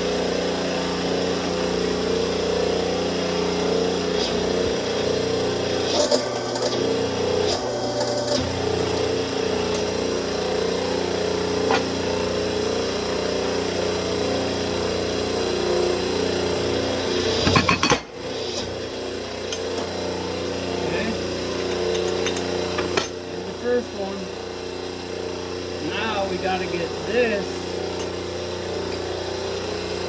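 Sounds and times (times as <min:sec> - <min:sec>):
electric motor humming: 0:00.0 - 0:30.0.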